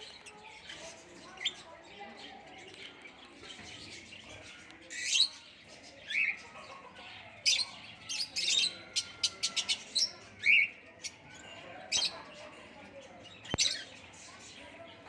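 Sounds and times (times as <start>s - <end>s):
small parrots squawking and chirping: 0.0s - 15.0s.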